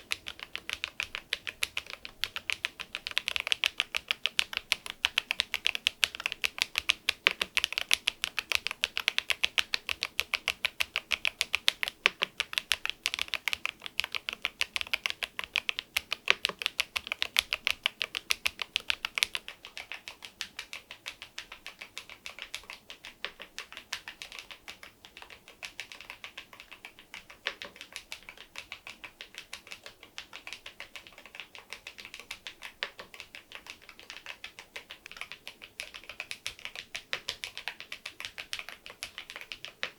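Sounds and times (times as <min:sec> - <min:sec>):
rapid keyboard typing: 0:00.0 - 0:39.9.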